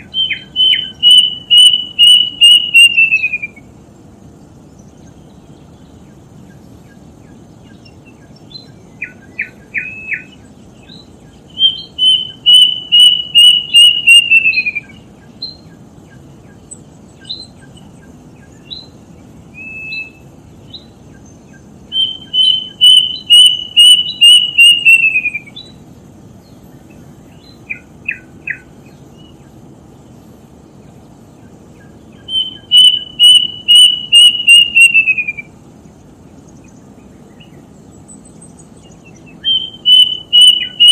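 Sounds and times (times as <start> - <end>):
bird whistling song: 0.0 - 3.7, 4.8 - 25.8, 26.4 - 29.6, 30.8 - 35.6, 36.3 - 40.9.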